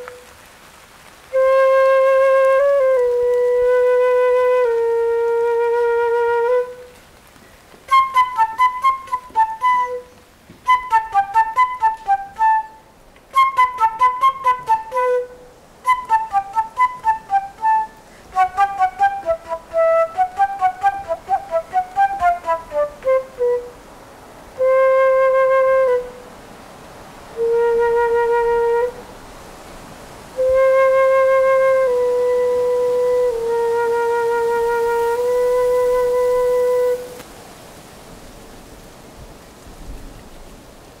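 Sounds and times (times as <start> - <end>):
solo flute playing: 0.0 - 0.5, 1.2 - 29.4, 30.3 - 37.3.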